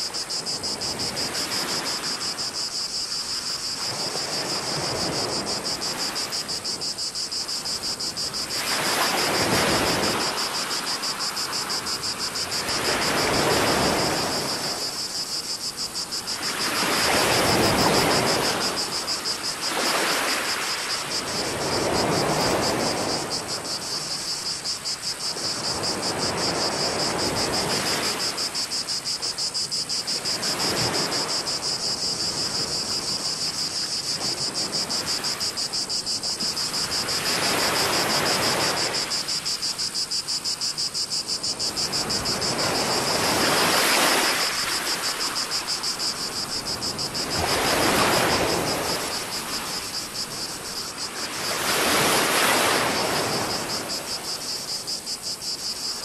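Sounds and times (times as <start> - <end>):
cicadas chorus: 0.0 - 56.0.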